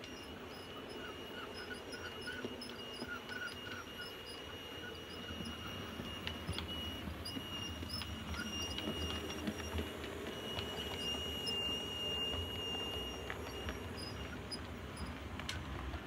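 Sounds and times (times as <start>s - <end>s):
electric motor whine: 0.0s - 16.0s
wheels clicking on track: 0.0s - 16.0s.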